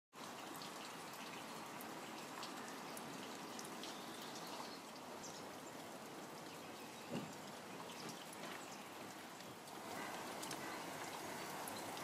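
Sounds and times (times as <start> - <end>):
steady rain falling: 0.1 - 12.0.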